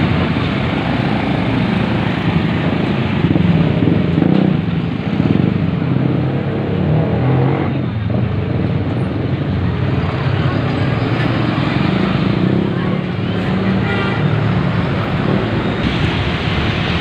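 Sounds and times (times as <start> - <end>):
tyres on road: 0.0 - 17.0
vehicle engines running: 0.0 - 17.0.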